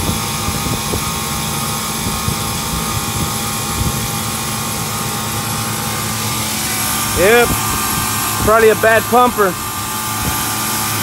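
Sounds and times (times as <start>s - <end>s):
cooler condensing unit humming: 0.0s - 11.0s.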